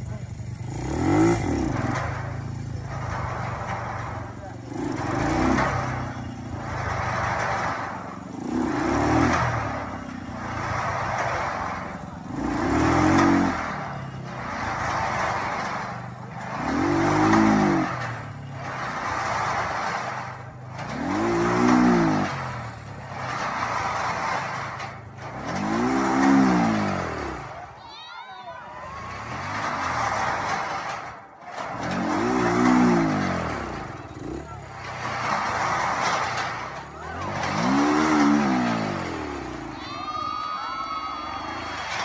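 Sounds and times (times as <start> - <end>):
motorcycle engine revving: 0.0 - 27.8, 28.9 - 40.2
rushing noise: 0.7 - 42.0.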